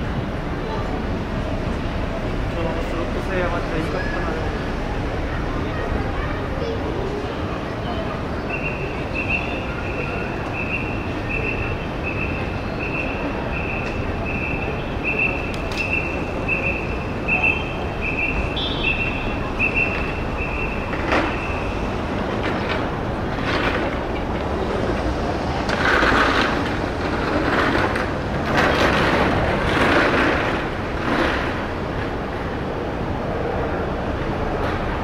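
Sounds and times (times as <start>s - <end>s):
city street noise: 0.0s - 35.0s
rushing rumbling noise: 0.0s - 35.0s.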